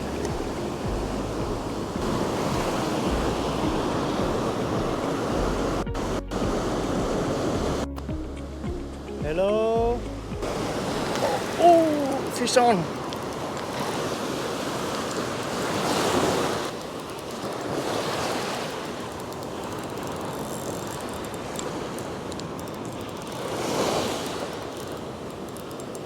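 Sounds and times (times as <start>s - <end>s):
ocean surf breaking: 0.0s - 7.9s, 9.1s - 26.0s.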